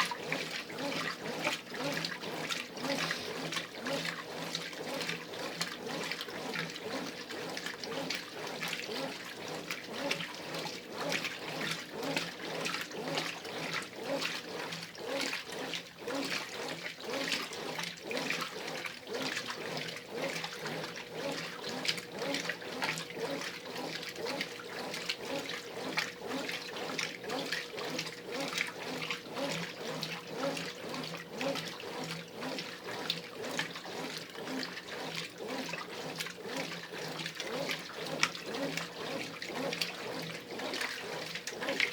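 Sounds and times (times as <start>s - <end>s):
washing machine water sloshing: 0.0s - 41.9s.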